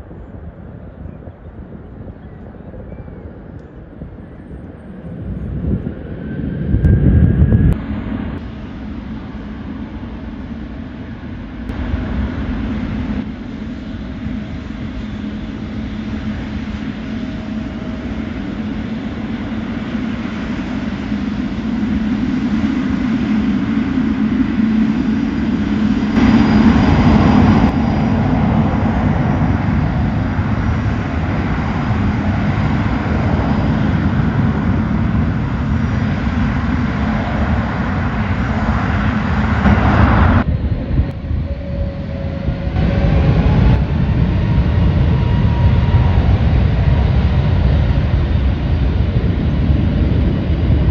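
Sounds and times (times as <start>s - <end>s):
jet engine noise: 0.0s - 50.9s.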